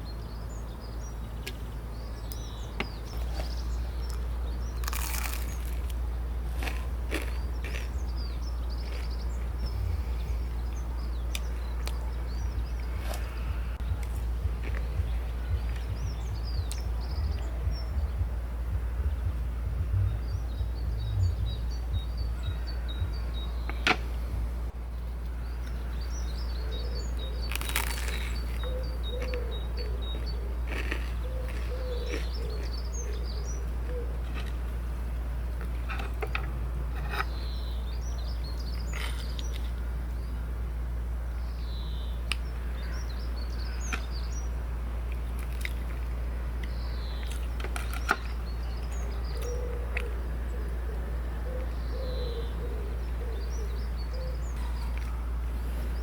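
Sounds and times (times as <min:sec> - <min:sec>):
small birds chirping: 0:00.0 - 0:56.0
steady low rumble: 0:00.0 - 0:56.0.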